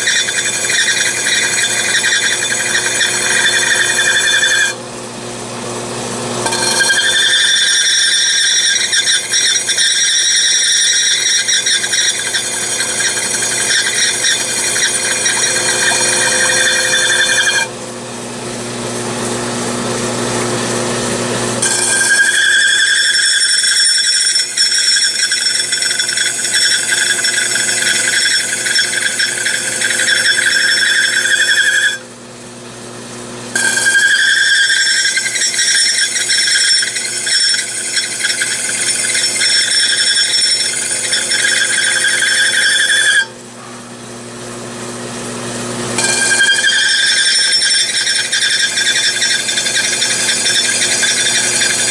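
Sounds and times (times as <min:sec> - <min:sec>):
stone wheel grinding glass: 0:00.0 - 0:04.8, 0:06.4 - 0:17.7, 0:21.6 - 0:32.1, 0:33.5 - 0:43.4, 0:46.0 - 0:51.9.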